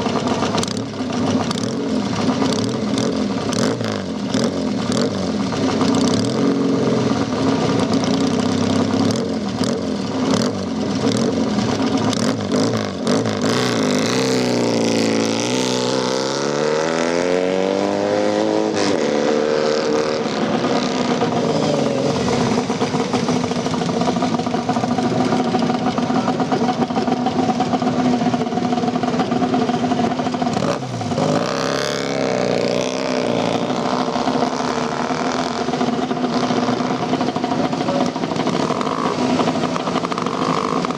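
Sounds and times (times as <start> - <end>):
motorcycle engines running: 0.0 - 40.9.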